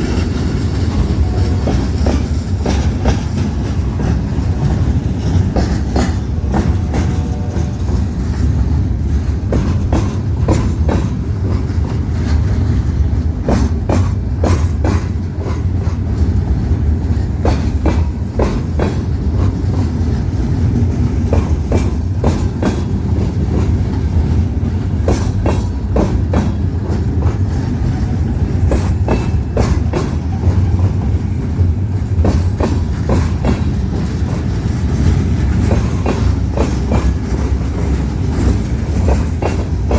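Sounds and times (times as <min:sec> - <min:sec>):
train rumbling past: 0:00.0 - 0:39.9
wheels clicking over rail joints: 0:00.0 - 0:39.9.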